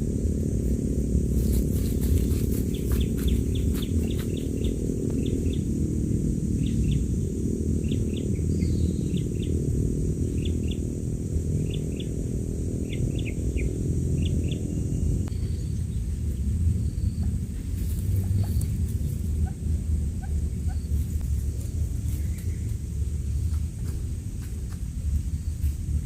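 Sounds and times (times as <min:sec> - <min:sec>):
loud low hum: 0:00.0 - 0:26.0
quail chicks peeping: 0:01.3 - 0:05.8, 0:06.5 - 0:07.2, 0:07.8 - 0:26.0.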